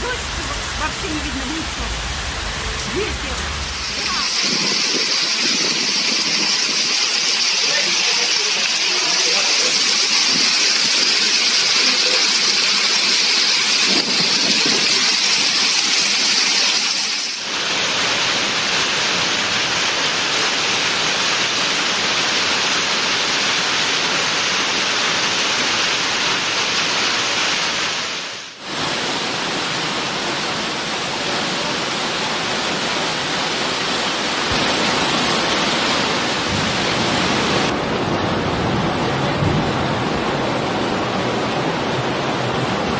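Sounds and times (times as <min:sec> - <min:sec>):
heavy rain rushing: 0:00.0 - 0:42.9.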